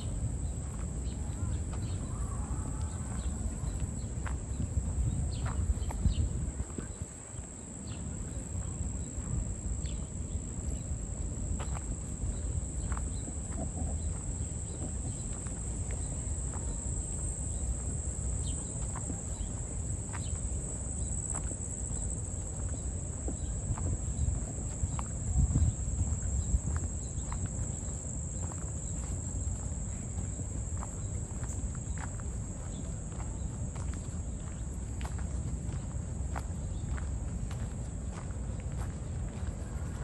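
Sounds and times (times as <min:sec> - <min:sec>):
footsteps on paved path: 0:00.0 - 0:40.0.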